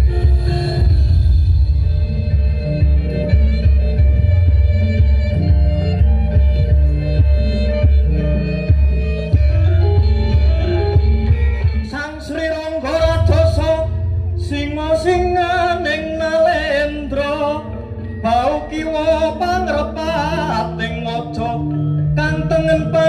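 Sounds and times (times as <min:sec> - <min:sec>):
amplified music with singing: 0:00.0 - 0:23.0.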